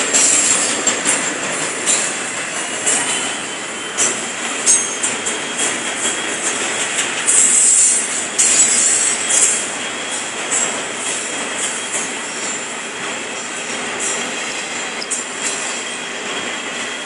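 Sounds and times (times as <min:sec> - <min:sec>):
freight train rolling past: 0:00.0 - 0:17.0
high squeal of train wheels: 0:00.0 - 0:17.0.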